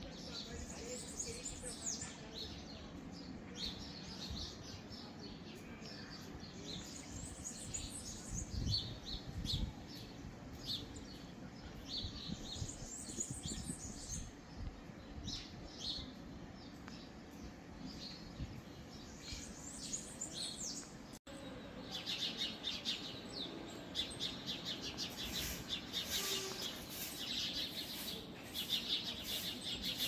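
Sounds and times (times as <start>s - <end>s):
low rumble of outdoor noise: 0.0s - 30.0s
small birds chirping: 0.0s - 30.0s.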